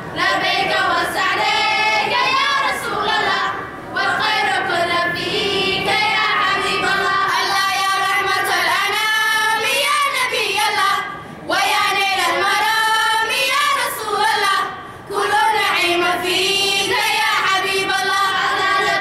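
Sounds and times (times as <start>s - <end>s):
girls choir singing: 0.0s - 19.0s.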